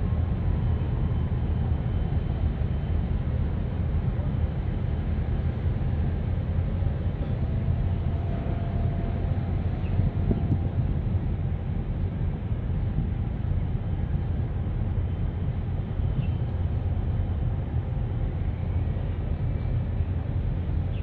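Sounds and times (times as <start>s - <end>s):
ship engines rumbling: 0.0s - 21.0s.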